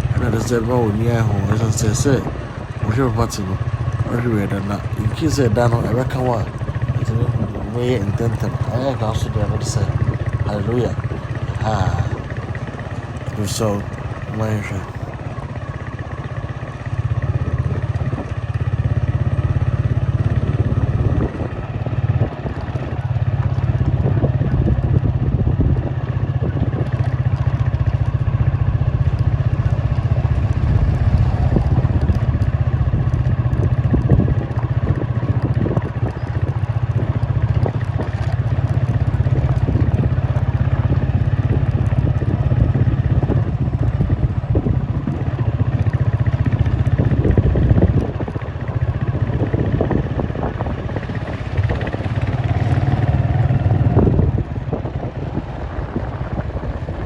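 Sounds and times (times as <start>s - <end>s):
moving vehicle rumble: 0.0s - 57.0s.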